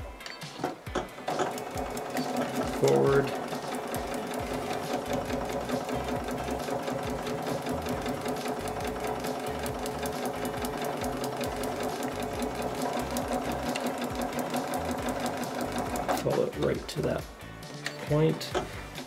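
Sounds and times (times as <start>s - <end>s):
sewing machine stitching: 0.5s - 16.8s.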